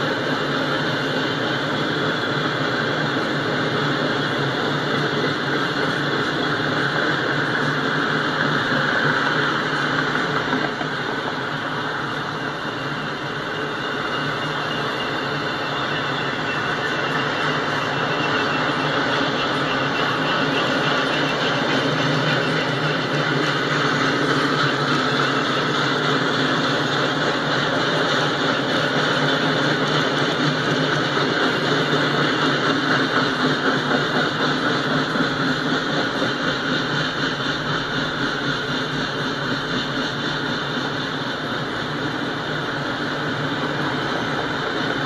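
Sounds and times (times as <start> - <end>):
rhythmic train clatter: 0.0 - 45.0
train wheels rumbling on rails: 0.0 - 45.0.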